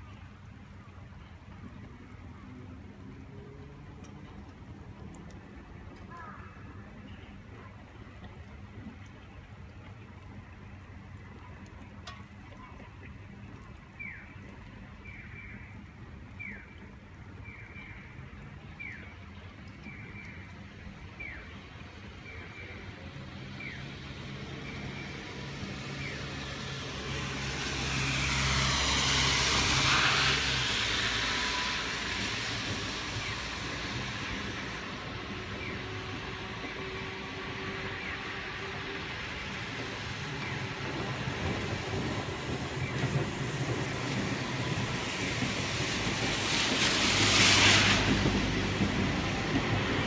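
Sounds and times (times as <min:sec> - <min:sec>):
tyre hiss on wet street: 0:00.0 - 0:50.0.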